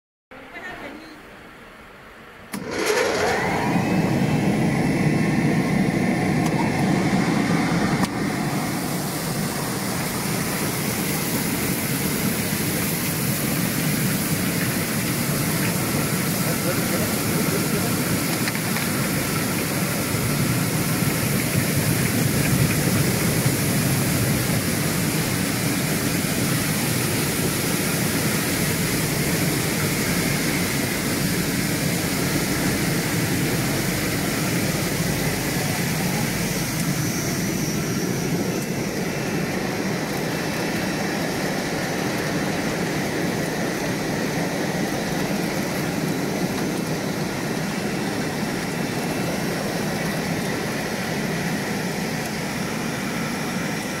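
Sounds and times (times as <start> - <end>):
machine low hum: 2.5 - 53.3
water spraying and churning: 2.6 - 54.0.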